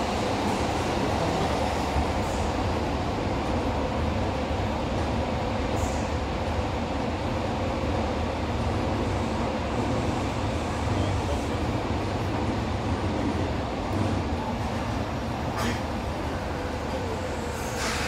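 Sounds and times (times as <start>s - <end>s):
subway train running rumble: 0.0s - 18.0s.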